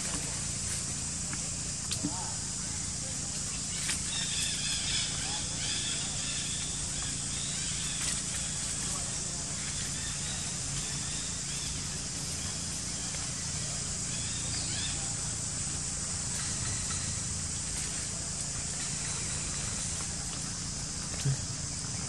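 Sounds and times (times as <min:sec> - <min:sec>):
high-pitched insect drone: 0:00.0 - 0:22.0
faint chirps: 0:00.2 - 0:22.0.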